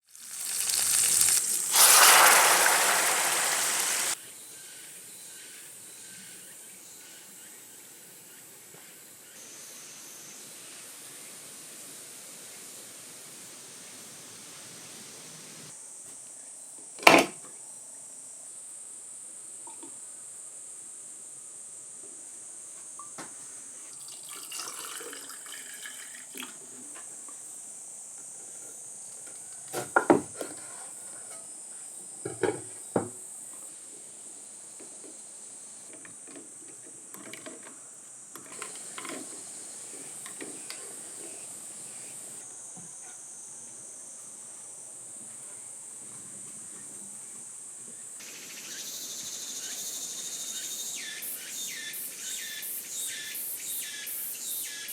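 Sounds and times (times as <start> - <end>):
high insect drone: 0.1 - 16.7, 17.7 - 30.0, 30.8 - 54.9.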